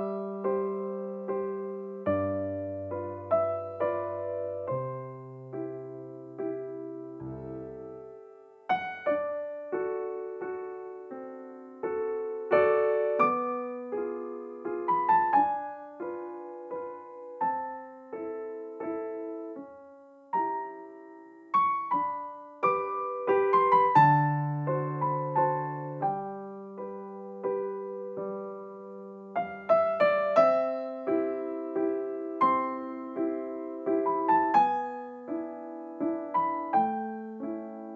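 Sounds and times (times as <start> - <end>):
gentle solo piano music: 0.0 - 37.9.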